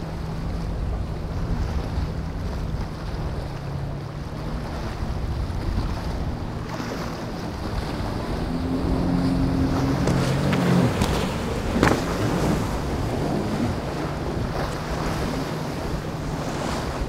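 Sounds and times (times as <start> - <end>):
boat outboard engines droning: 0.0 - 17.0
rushing water: 0.0 - 17.0
wind on microphone: 0.0 - 17.0.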